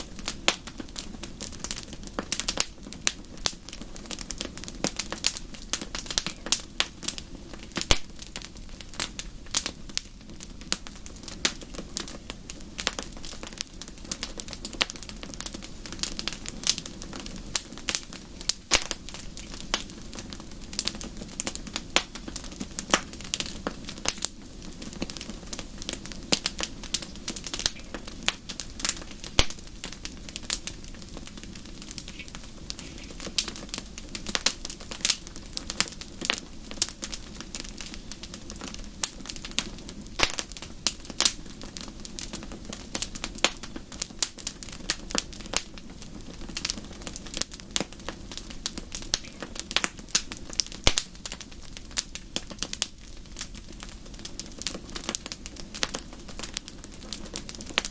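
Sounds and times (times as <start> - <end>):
low rush of flames: 0.0 - 57.9
wood fire crackling and popping: 0.0 - 57.9.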